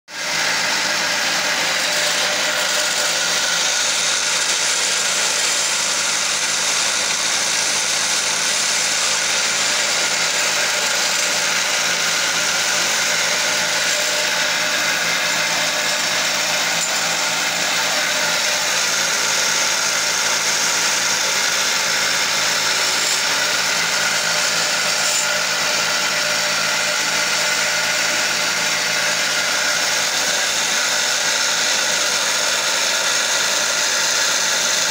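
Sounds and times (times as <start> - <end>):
chisel shaving wood: 0.1 - 34.9
lathe motor humming: 0.2 - 34.9.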